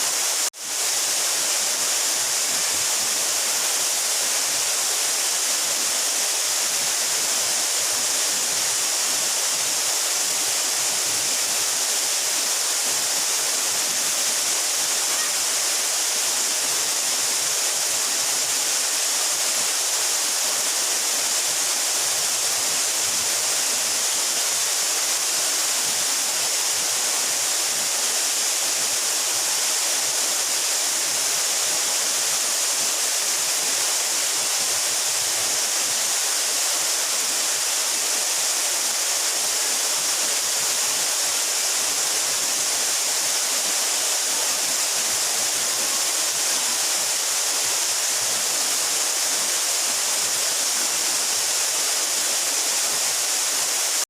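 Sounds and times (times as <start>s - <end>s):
waterfall roar: 0.0s - 54.0s.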